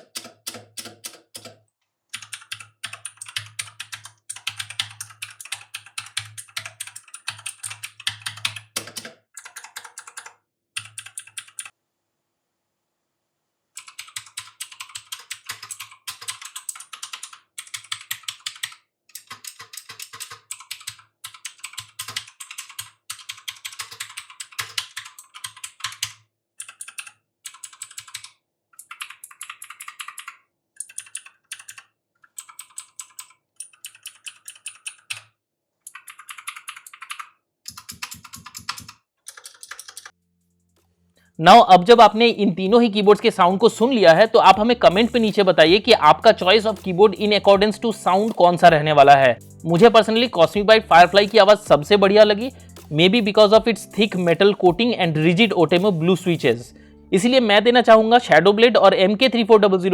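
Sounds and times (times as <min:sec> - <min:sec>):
mechanical keyboard typing: 0:00.0 - 0:11.7, 0:13.8 - 0:35.3, 0:35.9 - 0:40.2, 0:43.1 - 0:56.6.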